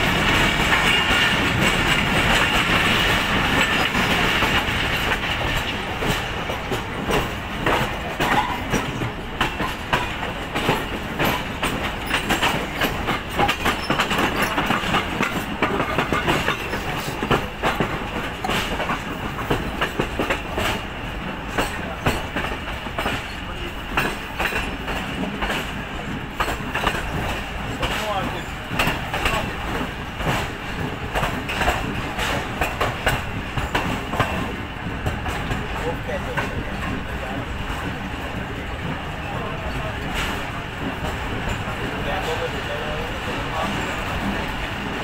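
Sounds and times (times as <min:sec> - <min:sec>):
train rumbling on rails: 0:00.0 - 0:45.0
wheels clacking over rail joints: 0:00.0 - 0:45.0.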